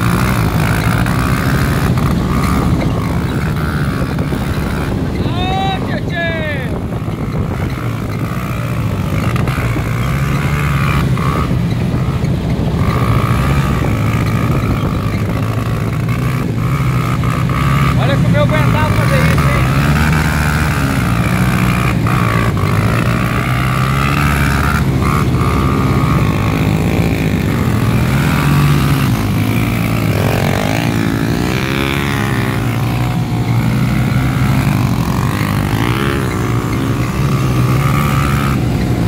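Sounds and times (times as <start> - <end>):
buggy engines revving: 0.0 - 39.0.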